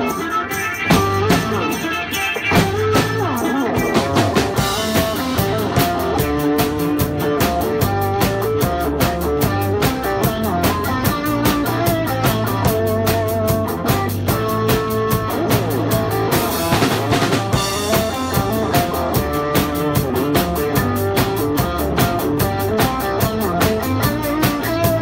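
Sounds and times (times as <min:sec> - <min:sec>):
drums with cymbal strokes: 0:00.0 - 0:25.0
rock instrumental with guitar: 0:00.0 - 0:25.0.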